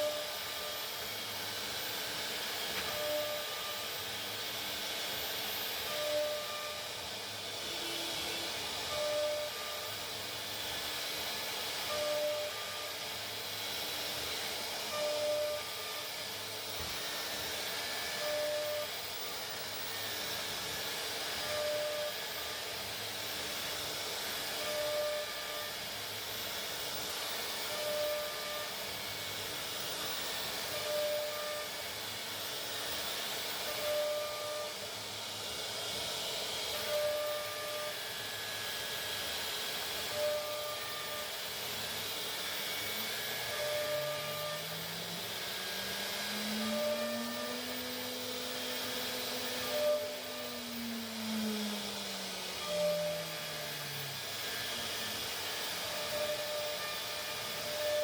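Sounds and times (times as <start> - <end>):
router machining plastic hiss: 0.0 - 58.0.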